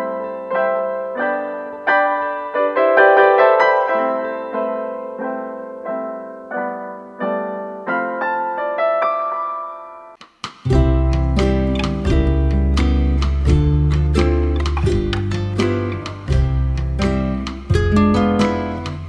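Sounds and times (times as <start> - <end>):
slow piano melody: 0.0 - 19.0.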